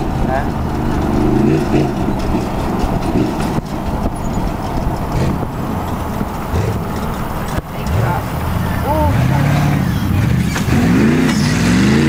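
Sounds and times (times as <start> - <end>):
truck engine running hard: 0.0 - 12.0.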